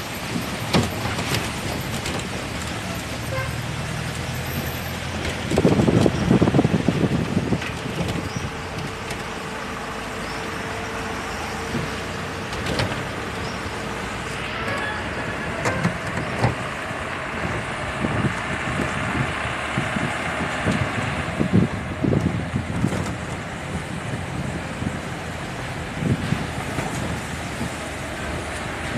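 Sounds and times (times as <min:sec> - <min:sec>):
vehicle engine tyre and wind rumble: 0:00.0 - 0:28.9.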